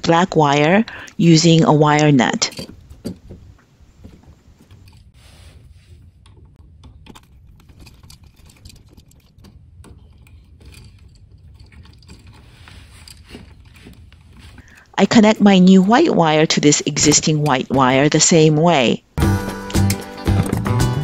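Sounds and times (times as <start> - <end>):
electrical wires clicking and rustling: 0.0 - 18.9.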